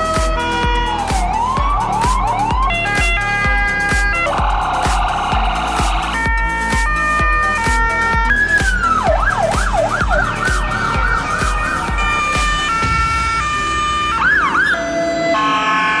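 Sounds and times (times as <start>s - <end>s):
music with kick-drum beat: 0.0s - 14.7s
emergency vehicle sirens: 0.0s - 16.0s.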